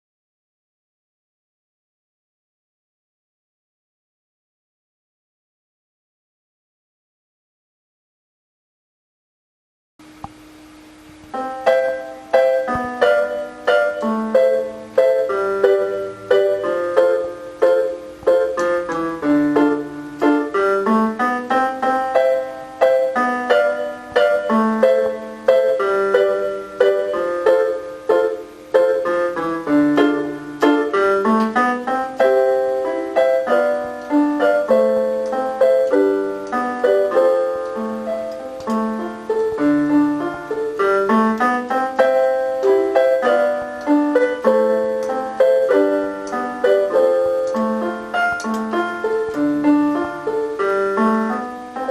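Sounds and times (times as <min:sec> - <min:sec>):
keyboard piano melody: 0:10.1 - 0:51.9.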